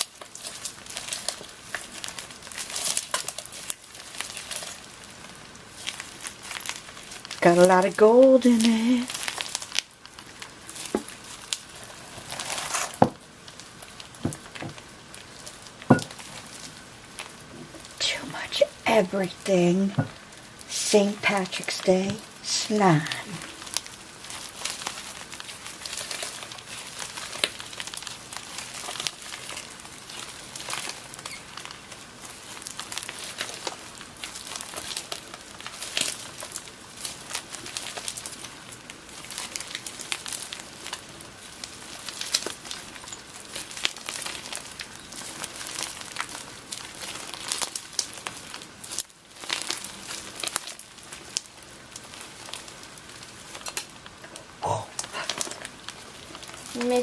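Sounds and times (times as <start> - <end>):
slime squished crackles and pops: 0.0 - 7.4, 8.6 - 18.0, 23.4 - 57.0.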